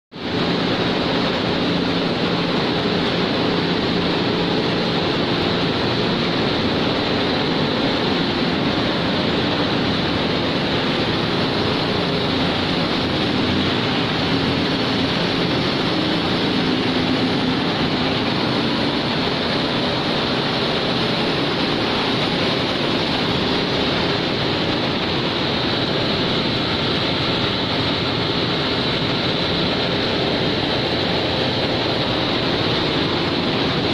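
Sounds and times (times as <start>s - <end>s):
rushing machine noise: 0.1s - 33.9s.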